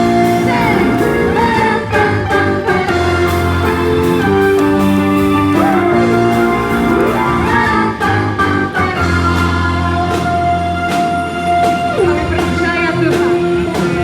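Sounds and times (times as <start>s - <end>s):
keyboard worship song: 0.0s - 14.0s.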